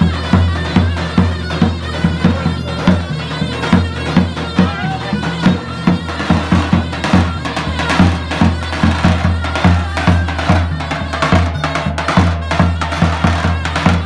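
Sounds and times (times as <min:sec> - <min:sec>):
wavering folk melody: 0:00.0 - 0:14.0.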